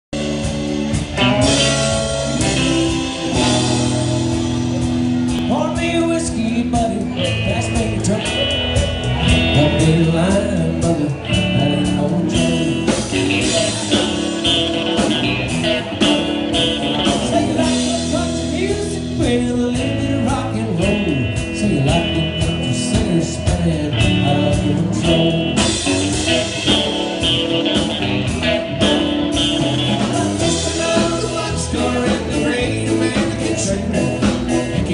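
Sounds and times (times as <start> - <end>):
country band playing live: 0.1 - 34.9
drum kit beat: 0.1 - 34.9
electric guitars: 0.2 - 34.9.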